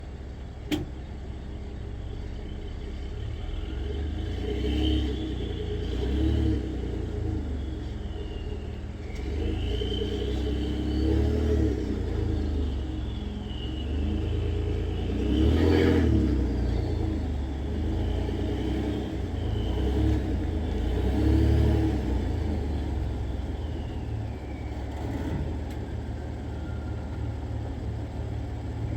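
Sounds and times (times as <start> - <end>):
truck engine running: 0.0 - 28.9
turbos whistling: 1.6 - 28.9.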